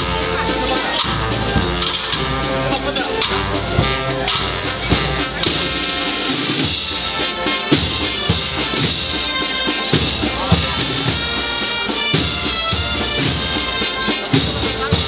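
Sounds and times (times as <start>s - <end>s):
drum strokes: 0.0s - 15.0s
wind chords: 0.0s - 15.0s.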